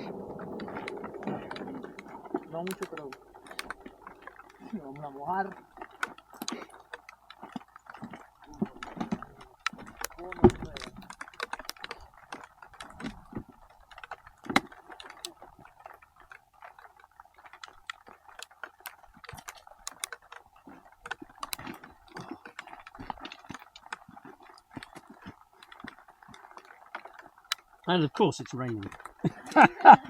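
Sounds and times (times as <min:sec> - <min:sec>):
raindrops tapping on gear: 0:00.0 - 0:30.0.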